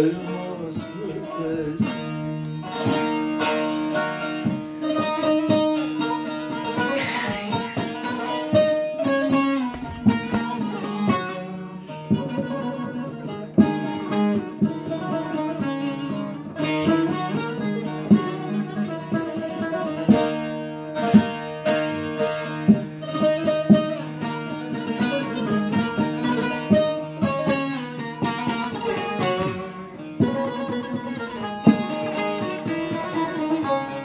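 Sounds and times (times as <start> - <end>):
plucked lutes playing folk music: 0.0 - 34.0.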